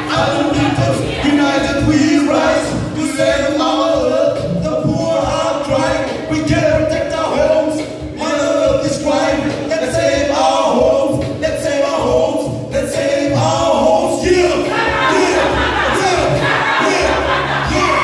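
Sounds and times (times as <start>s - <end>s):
choir singing a cappella: 0.0s - 18.0s.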